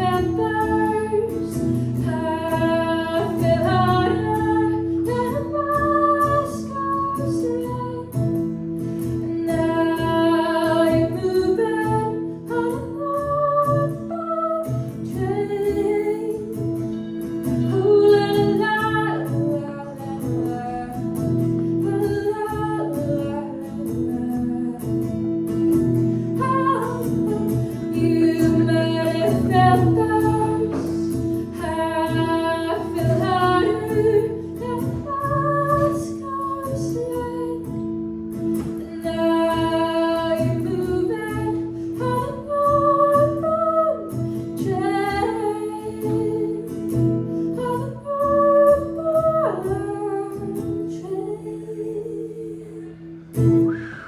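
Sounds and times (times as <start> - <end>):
guitar playing: 0.0 - 54.0
woman singing: 0.0 - 54.0.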